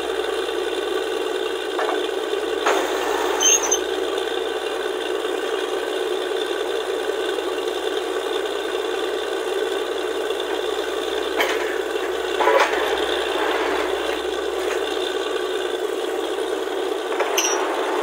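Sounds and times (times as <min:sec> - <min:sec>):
drilling rig rattling: 0:00.0 - 0:06.4, 0:09.5 - 0:18.0.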